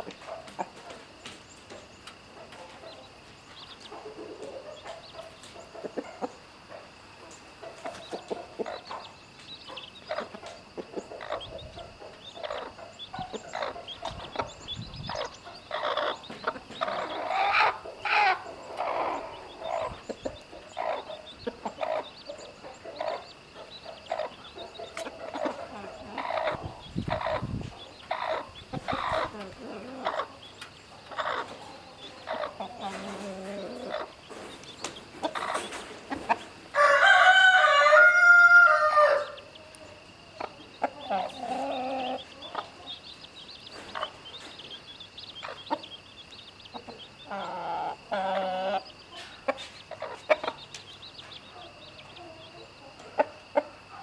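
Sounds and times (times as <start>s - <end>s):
chicken calls: 0.0s - 54.0s
hen clucking: 0.0s - 54.0s.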